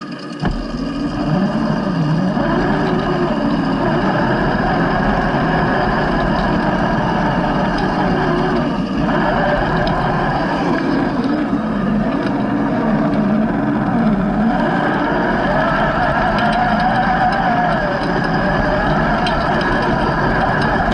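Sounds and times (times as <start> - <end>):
electric motor and gearbox whining: 0.0 - 20.9.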